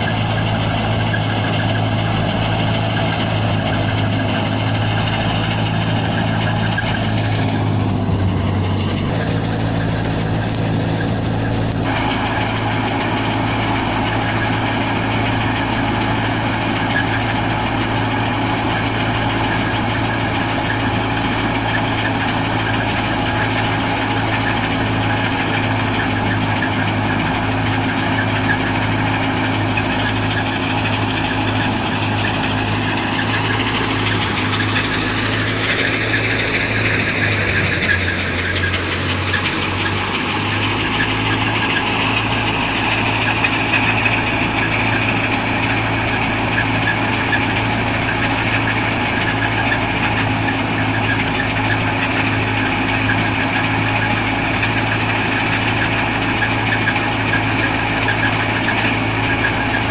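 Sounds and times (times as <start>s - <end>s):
thresher rushing noise: 0.0s - 59.9s
tractor diesel engine running: 0.0s - 59.9s.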